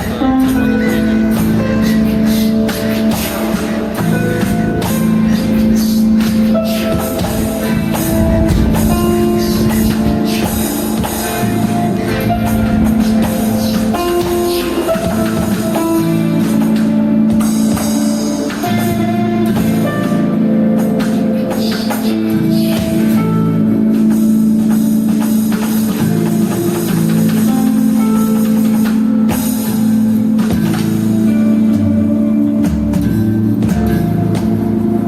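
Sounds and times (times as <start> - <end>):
drums: 0.0 - 35.0
guitar: 0.0 - 35.0.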